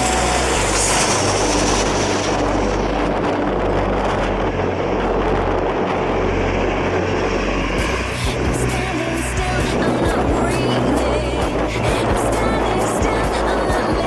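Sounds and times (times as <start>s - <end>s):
high engine whine: 0.0s - 14.0s
jet engine roar: 0.0s - 14.0s
wind buffeting microphone: 0.0s - 14.0s.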